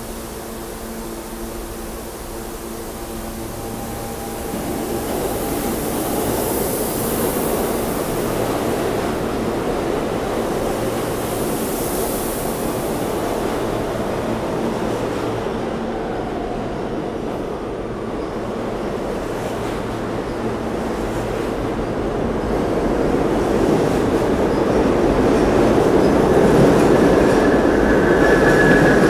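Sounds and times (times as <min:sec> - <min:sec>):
subway train pulling out: 0:00.0 - 0:29.0.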